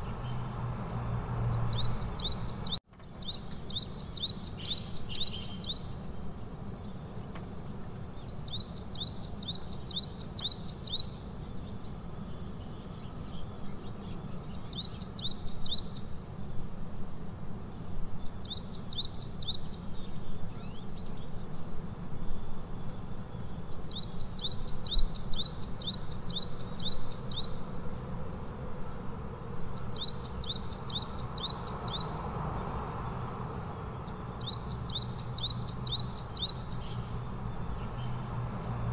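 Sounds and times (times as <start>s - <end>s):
songbird chirping: 0.0s - 16.9s, 17.6s - 38.9s.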